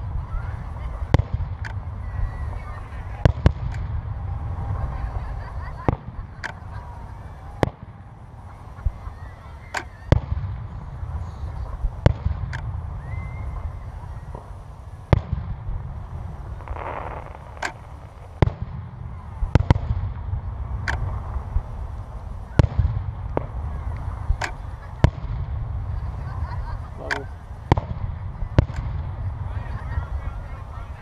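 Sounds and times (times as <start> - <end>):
low rumble: 0.0 - 9.0, 10.1 - 30.2
fireworks bursting: 0.0 - 31.0.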